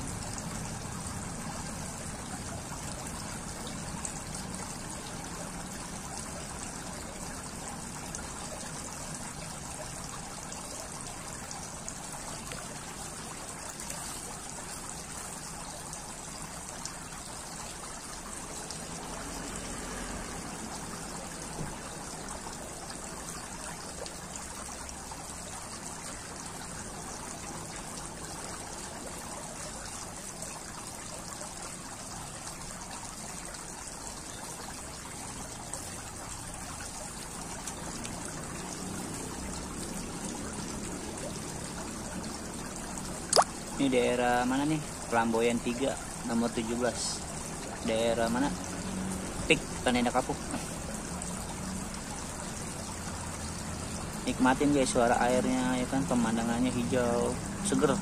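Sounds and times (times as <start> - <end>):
fountain water trickling and splashing: 0.0 - 58.0.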